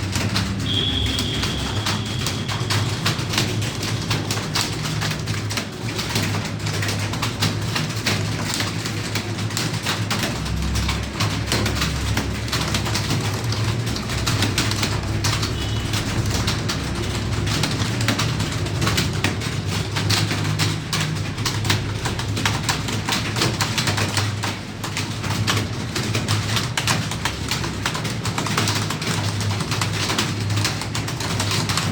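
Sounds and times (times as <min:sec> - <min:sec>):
keyboards typing clatter: 0:00.0 - 0:31.9.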